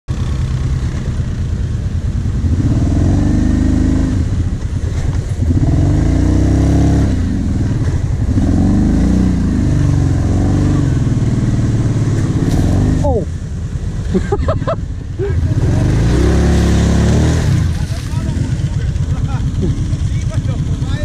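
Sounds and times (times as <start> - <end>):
quad engine revving: 2.2 - 13.4, 14.0 - 21.0.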